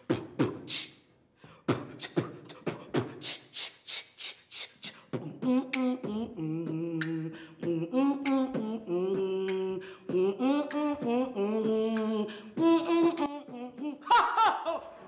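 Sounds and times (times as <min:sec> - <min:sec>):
woman beatboxing: 0:00.0 - 0:01.0, 0:01.7 - 0:14.1.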